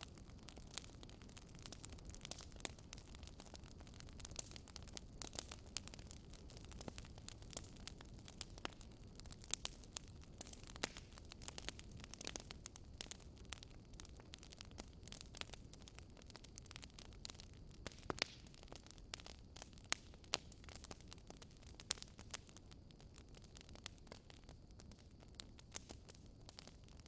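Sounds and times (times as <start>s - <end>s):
fireplace fire crackling: 0.0s - 27.0s.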